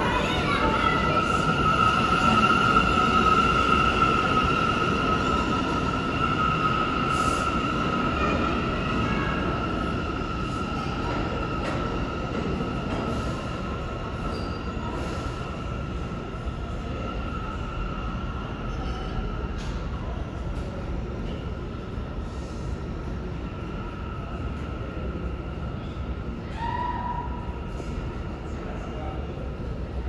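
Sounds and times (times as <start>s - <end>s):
train wheels squealing on rails: 0.0s - 29.1s.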